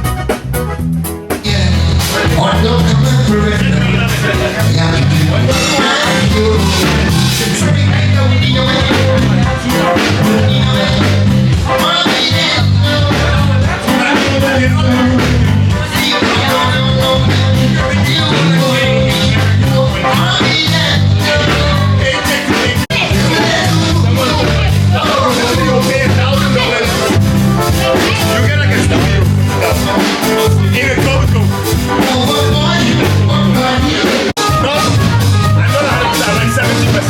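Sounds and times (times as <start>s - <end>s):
upbeat song with singing: 1.3s - 37.0s.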